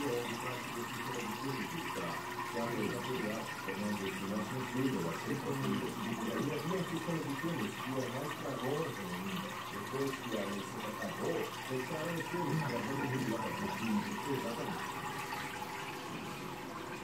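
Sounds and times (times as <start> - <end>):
water splashing into aquarium: 0.0 - 17.0.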